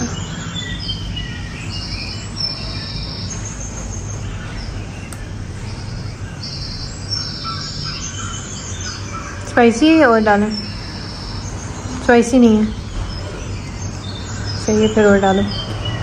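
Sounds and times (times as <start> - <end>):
birds chirping: 0.0 - 16.0
low room hum: 0.0 - 16.0.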